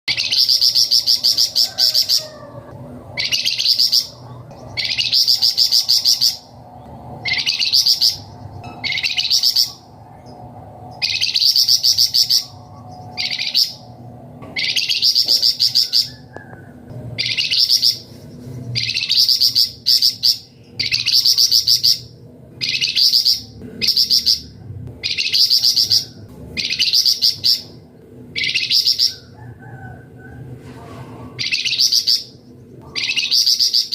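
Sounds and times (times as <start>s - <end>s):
songbird trilling: 0.1s - 2.5s, 3.2s - 6.5s, 7.2s - 9.9s, 10.9s - 13.9s, 14.6s - 16.6s, 17.2s - 18.1s, 18.8s - 27.8s, 28.4s - 29.9s, 31.4s - 33.9s.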